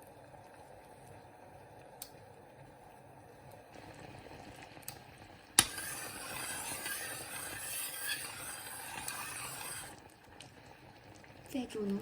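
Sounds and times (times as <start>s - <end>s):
jam bubbling in a pot: 0.0s - 12.0s.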